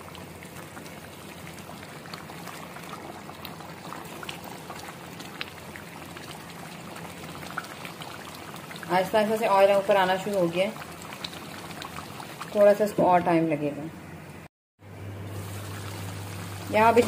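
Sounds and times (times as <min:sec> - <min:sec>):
gravy bubbling in a pan: 0:00.0 - 0:13.3, 0:15.3 - 0:17.0.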